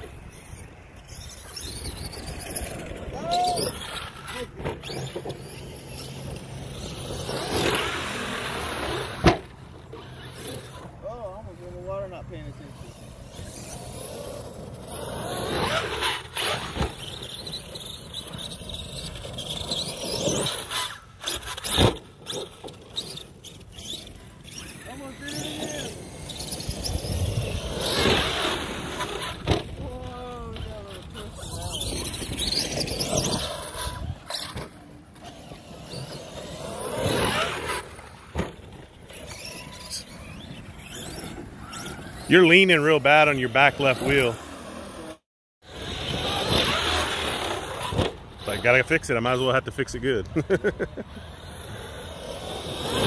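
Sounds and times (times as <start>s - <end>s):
rc truck motors whining: 0.0s - 53.0s
tyres on loose dirt: 0.0s - 53.0s.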